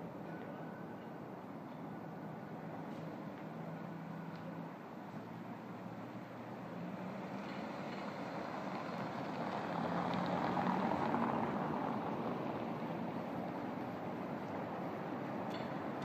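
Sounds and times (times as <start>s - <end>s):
street traffic: 0.0s - 16.0s
car passing on cobblestones: 2.9s - 16.0s.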